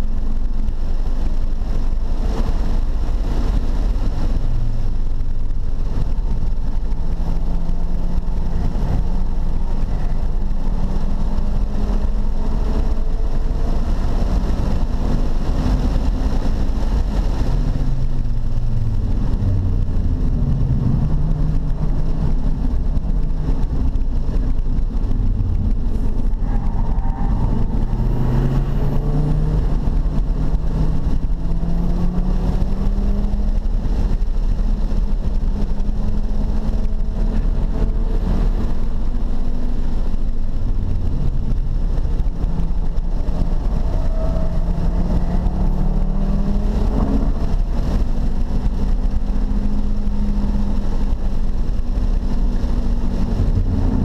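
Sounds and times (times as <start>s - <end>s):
car engine accelerating: 0.0s - 54.0s
road and wind noise: 0.0s - 54.0s.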